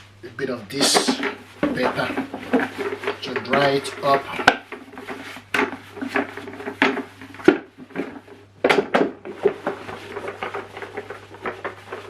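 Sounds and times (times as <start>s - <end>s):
paper towel rubbing: 0.8s - 8.4s, 9.3s - 12.0s
plastic parts knocking: 0.8s - 12.0s.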